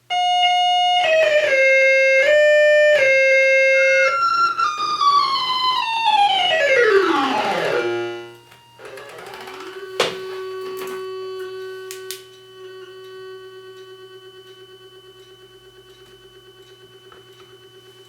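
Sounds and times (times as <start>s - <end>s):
buzzy synthesizer tone: 0.1s - 15.6s.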